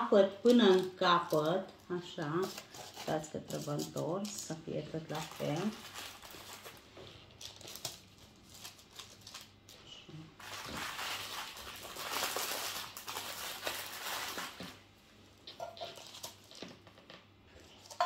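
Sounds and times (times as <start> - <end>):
wrapping crinkling: 0.4 - 18.0.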